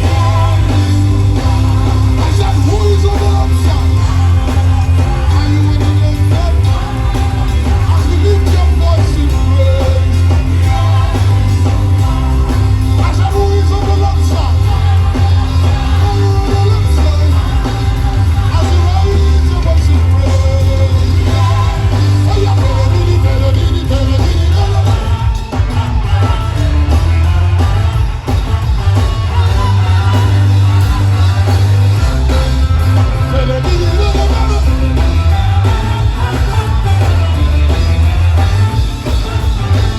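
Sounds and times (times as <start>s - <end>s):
gospel band playing: 0.0s - 39.9s
heavy bass line: 0.0s - 39.9s
people singing: 0.0s - 39.9s.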